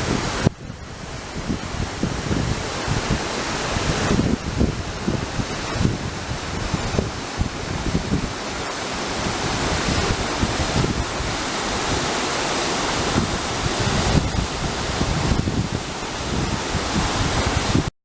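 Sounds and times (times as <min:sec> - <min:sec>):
waterfall rushing: 0:00.0 - 0:17.9
wind buffeting microphone: 0:00.0 - 0:17.9.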